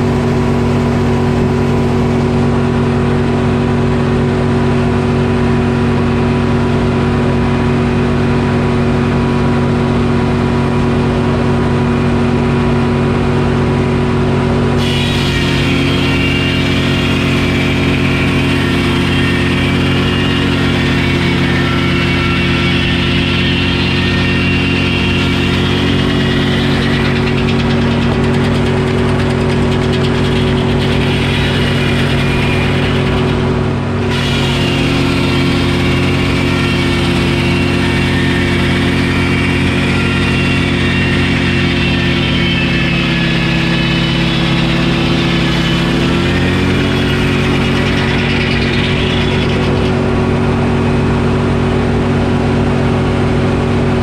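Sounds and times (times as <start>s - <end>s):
saw cutting: 0.0s - 5.8s, 14.7s - 52.6s
diesel engine running: 0.0s - 54.0s.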